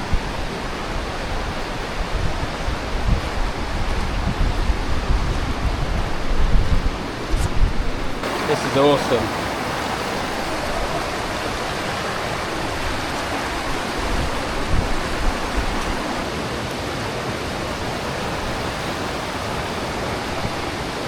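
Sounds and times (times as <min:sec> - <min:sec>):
mountain stream rushing: 0:00.0 - 0:21.0.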